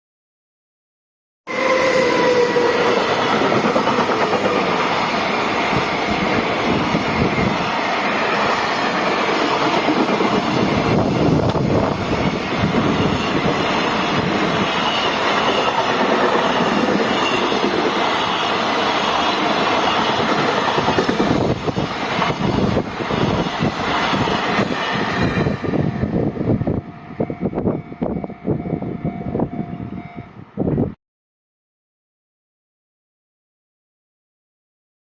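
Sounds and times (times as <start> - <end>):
freight train wheels rumbling: 1.5 - 30.9.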